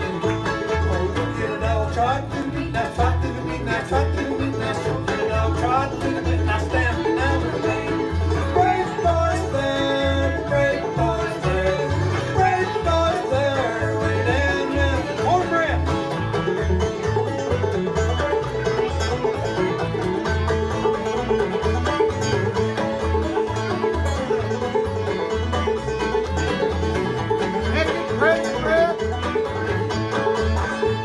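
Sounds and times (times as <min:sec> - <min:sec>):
plucked bass fiddle: 0:00.0 - 0:31.0
string band playing: 0:00.0 - 0:31.0.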